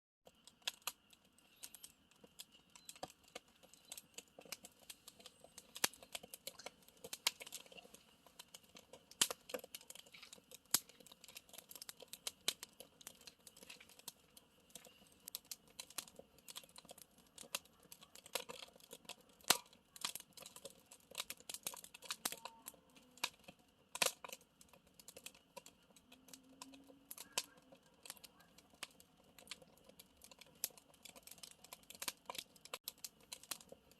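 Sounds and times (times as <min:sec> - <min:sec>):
campfire pops and snaps: 0:00.3 - 0:33.9
soft hiss of burning: 0:00.3 - 0:33.9.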